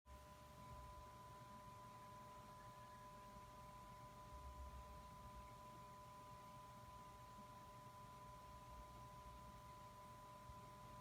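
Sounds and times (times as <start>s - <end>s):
thin steady tone: 0.1s - 11.0s.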